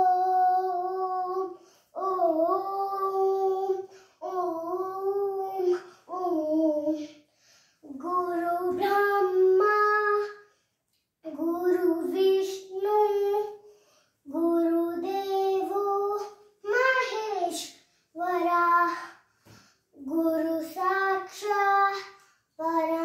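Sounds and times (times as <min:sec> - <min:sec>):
girl singing unaccompanied: 0:00.0 - 0:10.5, 0:11.2 - 0:23.0.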